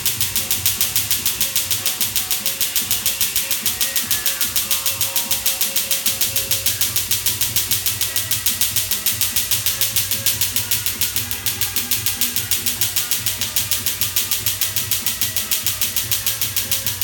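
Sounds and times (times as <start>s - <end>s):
laser handpiece sharp snaps: 0.0s - 17.0s.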